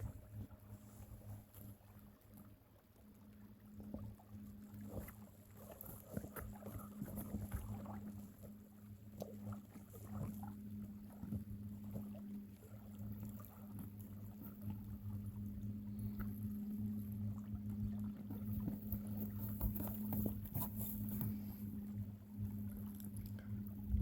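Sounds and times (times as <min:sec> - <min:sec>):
water lapping against hull: 0:00.0 - 0:24.0.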